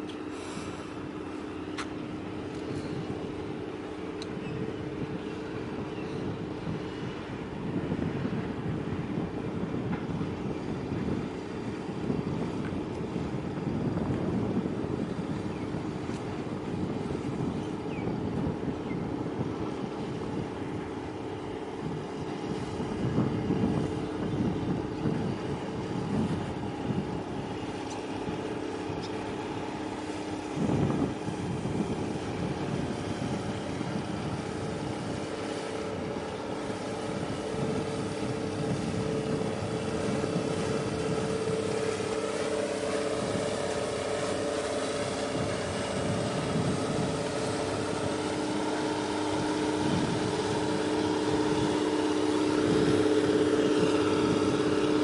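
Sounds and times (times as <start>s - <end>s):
boat engines droning: 0.0s - 55.0s
wind rumble on microphone: 0.0s - 55.0s.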